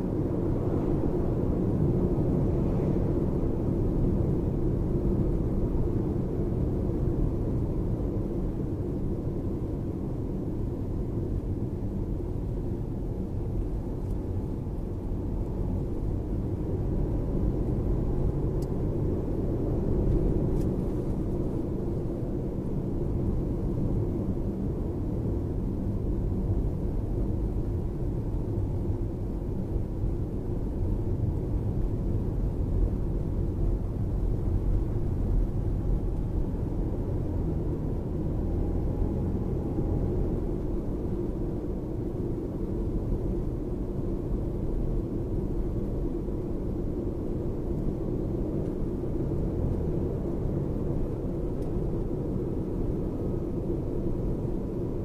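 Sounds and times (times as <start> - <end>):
road and tyre rumble in car: 0.0 - 55.0.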